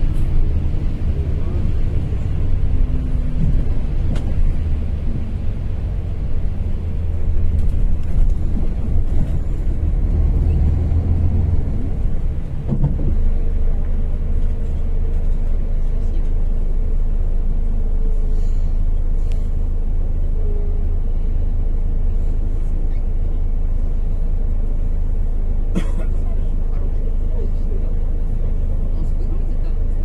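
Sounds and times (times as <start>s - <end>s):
bus engine and road rumble: 0.0s - 30.0s.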